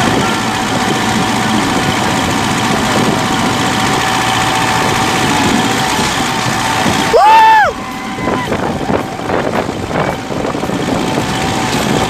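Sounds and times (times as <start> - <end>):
diesel tractor engines running: 0.0 - 12.0
thin steady whine: 0.0 - 12.0.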